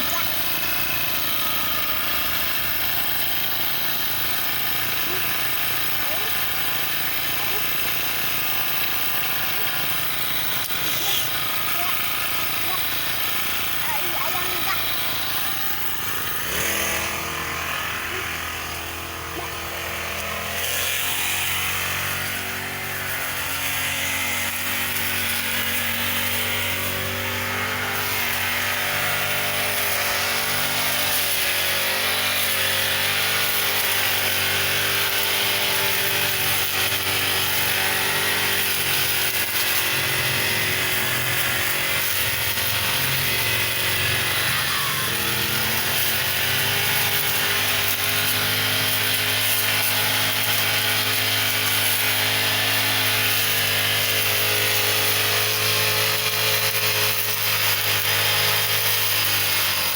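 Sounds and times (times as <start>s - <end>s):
brush cutter engine running: 0.0s - 59.9s.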